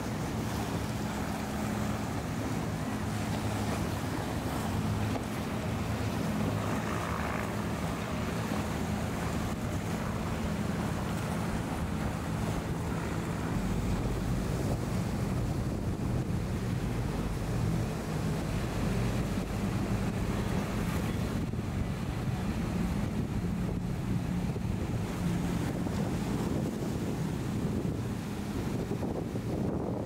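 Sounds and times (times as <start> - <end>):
deeper engine drone: 0.0 - 30.0
outboard engines droning: 0.0 - 30.0
rushing water from wake: 0.0 - 30.0
wind buffeting microphone: 0.0 - 30.0.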